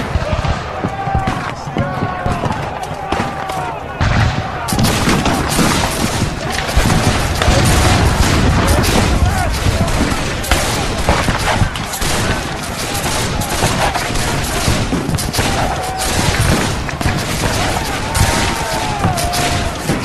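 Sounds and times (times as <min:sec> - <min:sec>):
musket volleys and gunfire: 0:00.0 - 0:20.0
men yelling: 0:00.1 - 0:20.0.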